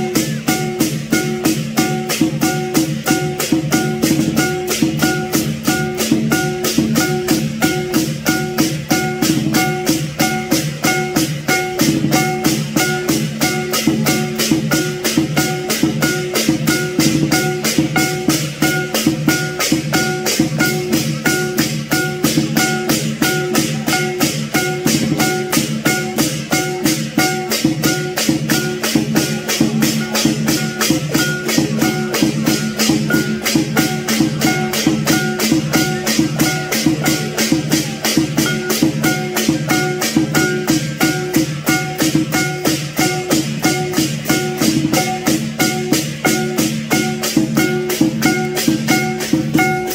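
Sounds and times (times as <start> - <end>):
crashing cymbals: 0.0 - 49.9
drum strokes: 0.0 - 49.9
ringing gong: 0.0 - 49.9.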